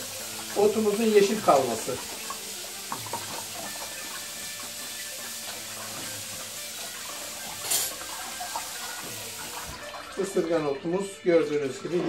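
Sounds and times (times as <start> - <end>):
tap water splashing into basin: 0.0 - 12.0.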